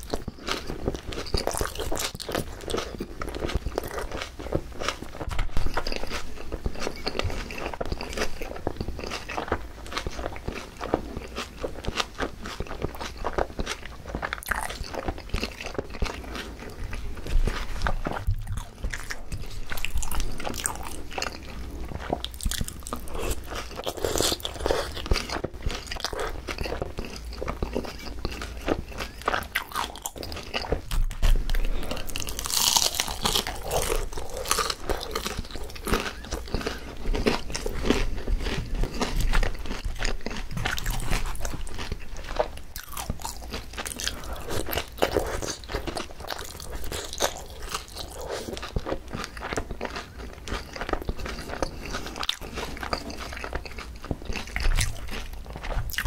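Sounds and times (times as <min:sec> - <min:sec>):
chewing and crunching fried chicken: 0:00.0 - 0:56.0.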